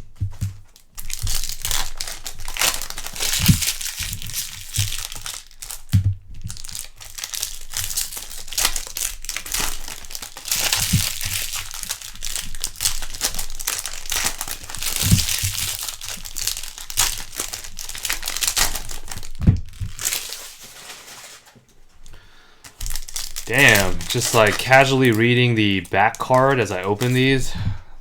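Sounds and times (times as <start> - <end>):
card pack wrappers crinkling: 0.4 - 28.0.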